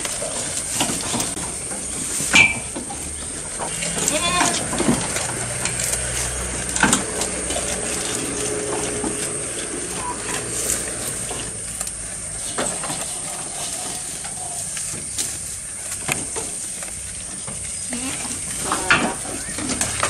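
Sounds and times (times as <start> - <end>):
goats chewing grass: 0.0 - 20.0.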